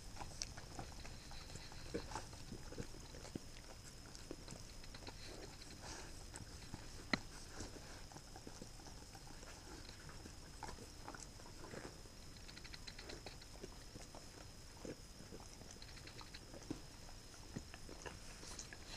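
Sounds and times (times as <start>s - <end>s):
dogs licking and chewing: 0.0s - 18.9s.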